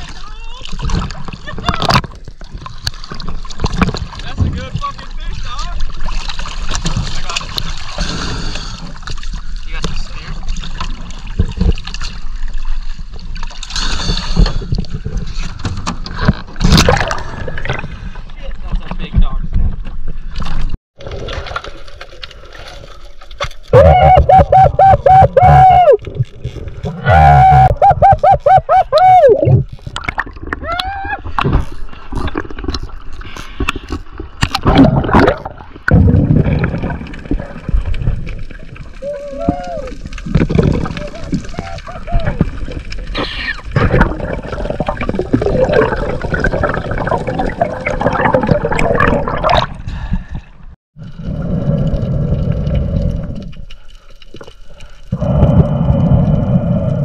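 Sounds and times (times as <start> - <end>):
water gurgling and sloshing: 0.0 - 57.0.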